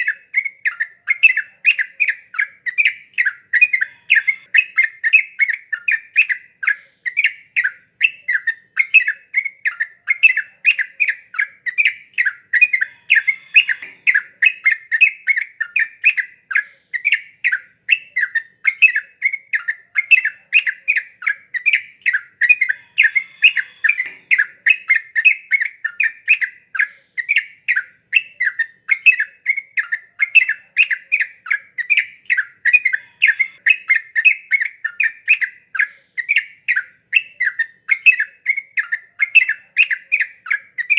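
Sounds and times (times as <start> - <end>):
bulbul chattering song: 0.0 - 40.9.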